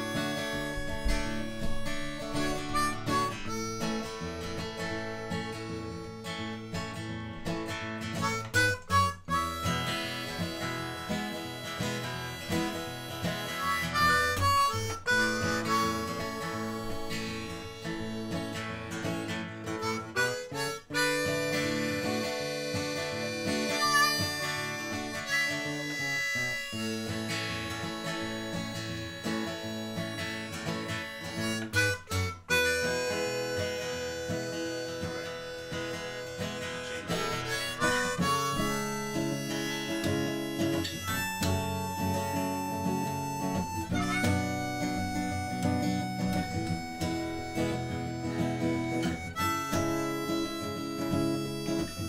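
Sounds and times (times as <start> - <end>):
acoustic guitar: 0.0 - 52.0
harmonica: 0.0 - 52.0.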